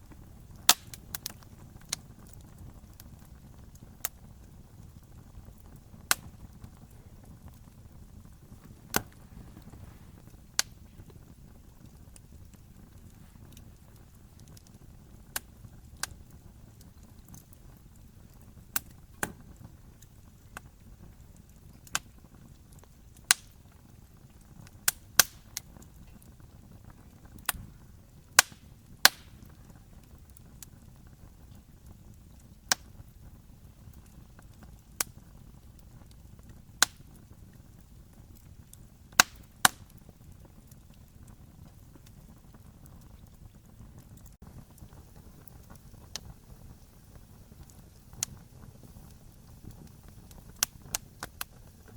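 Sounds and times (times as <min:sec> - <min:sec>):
fire low rumble: 0:00.0 - 0:51.9
logs crackling and popping: 0:00.0 - 0:51.9.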